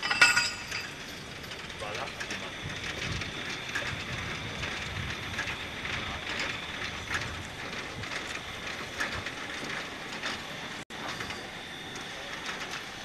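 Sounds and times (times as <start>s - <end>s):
steam locomotive exhaust chuffs: 0.0s - 13.0s.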